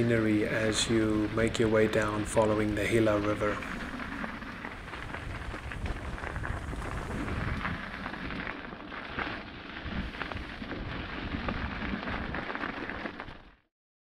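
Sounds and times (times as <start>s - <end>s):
wind buffeting microphone: 0.0s - 12.5s
bike rattling over rocky dirt: 0.0s - 13.6s.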